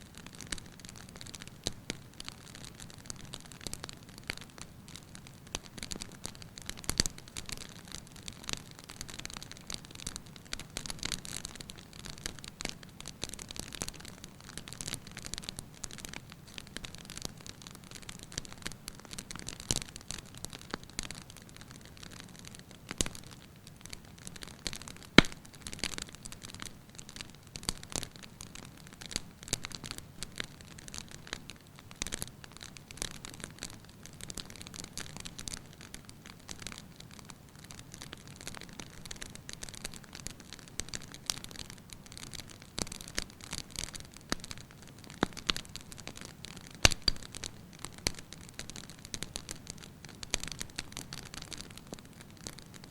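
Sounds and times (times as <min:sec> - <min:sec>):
firewood crackling in fireplace: 0:00.0 - 0:52.9.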